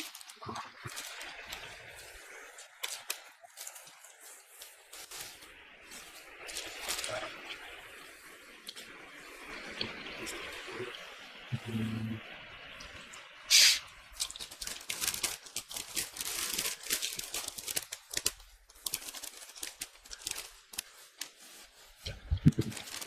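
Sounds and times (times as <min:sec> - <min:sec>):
rustling and crinkling handling noise: 0:00.0 - 0:23.0.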